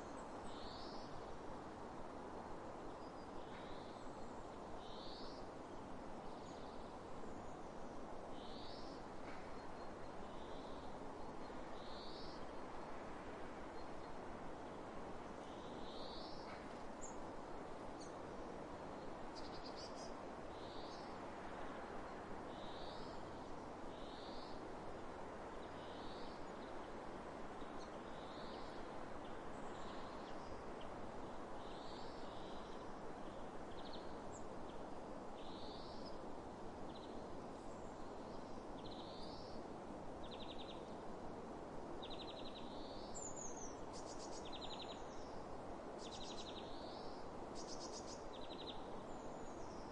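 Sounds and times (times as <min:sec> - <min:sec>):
wind across open fields: 0:00.0 - 0:49.9.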